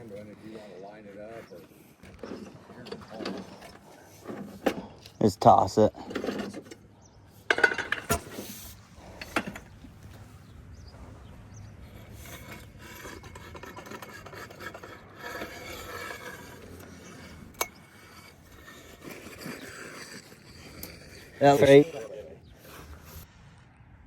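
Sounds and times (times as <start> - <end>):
concrete float scraping wet concrete: 0.0 - 23.3.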